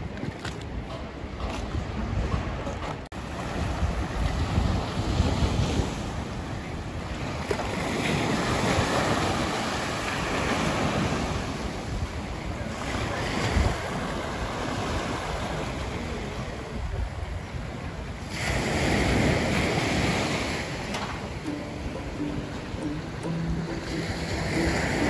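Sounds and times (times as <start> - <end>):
wind buffeting microphone: 0.0 - 25.0
small waves breaking on beach: 3.2 - 25.0.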